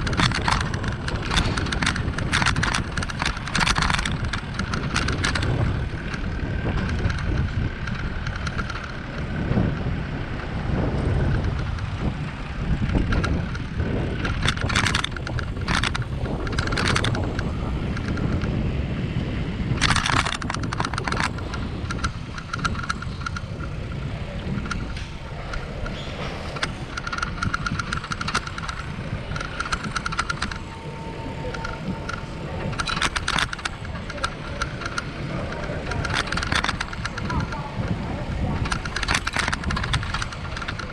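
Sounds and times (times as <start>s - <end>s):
bicycle rattling and clicking: 0.0s - 40.9s
wind rumble on microphone: 0.0s - 40.9s.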